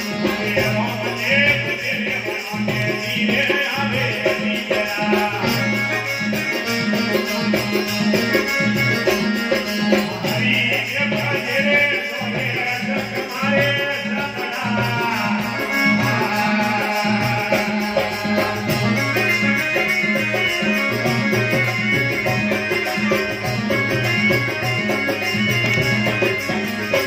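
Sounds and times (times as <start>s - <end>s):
man singing: 0.0s - 7.1s, 9.5s - 27.0s
hand drum beat: 0.0s - 27.0s
harmonium: 0.0s - 27.0s
jingling hand percussion: 0.0s - 27.0s.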